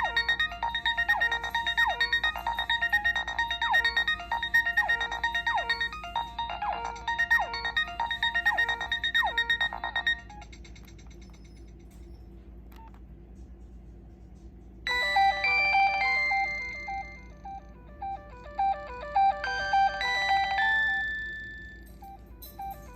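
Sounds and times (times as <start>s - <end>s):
mobile phone ringtone: 0.0s - 11.4s, 14.9s - 22.9s.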